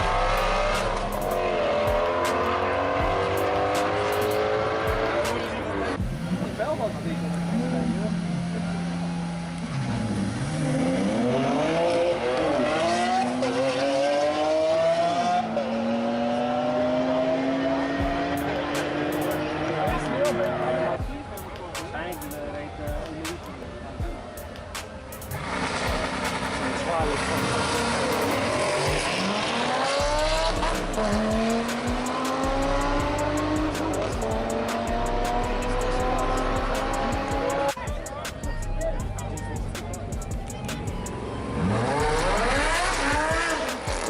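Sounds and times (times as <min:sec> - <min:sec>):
sports car engine accelerating: 0:00.0 - 0:21.0, 0:25.2 - 0:44.0.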